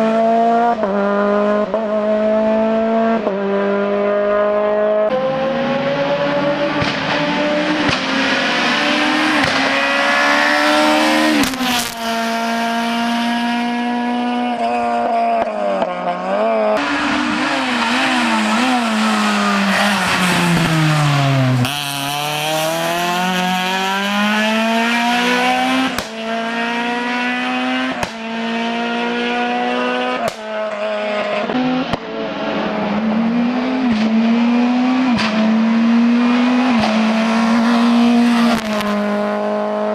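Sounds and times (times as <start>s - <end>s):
race car engine at full throttle: 0.0s - 39.9s.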